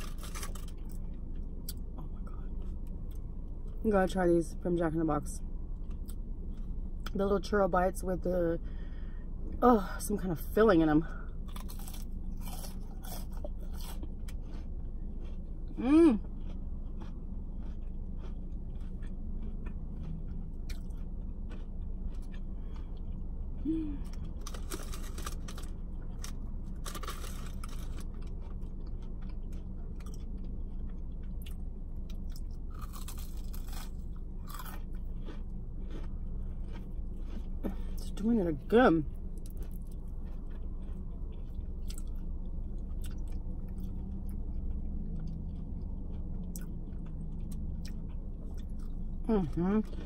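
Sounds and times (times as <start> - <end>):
chewing and crunching churros: 0.0 - 50.0
steady low hum: 0.0 - 50.0.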